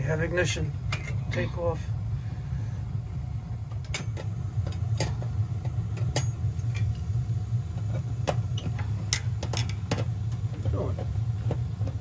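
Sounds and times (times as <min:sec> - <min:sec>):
gas burners rumbling: 0:00.0 - 0:12.0.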